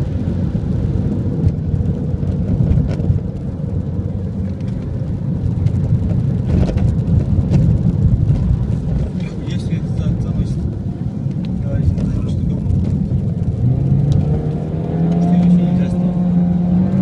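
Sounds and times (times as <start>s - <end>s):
car engine running: 0.0s - 17.0s
road and tyre noise: 0.0s - 17.0s.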